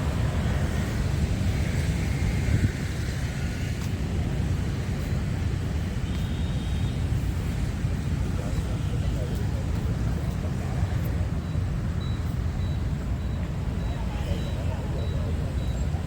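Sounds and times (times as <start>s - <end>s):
low rumble of city traffic: 0.0s - 16.0s.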